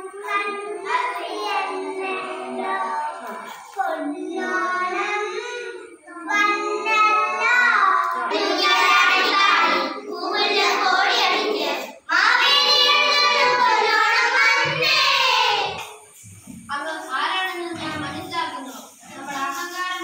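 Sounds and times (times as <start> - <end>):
children singing together: 0.0 - 18.4.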